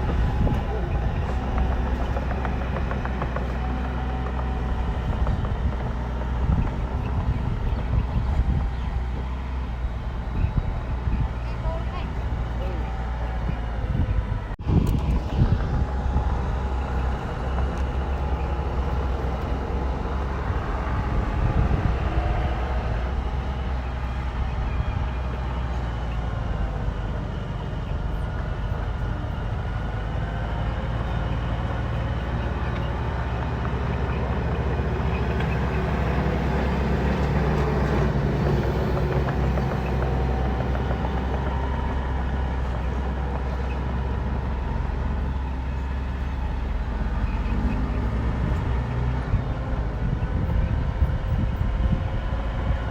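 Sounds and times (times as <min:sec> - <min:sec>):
bulldozer diesel engine under load: 0:00.0 - 0:52.9.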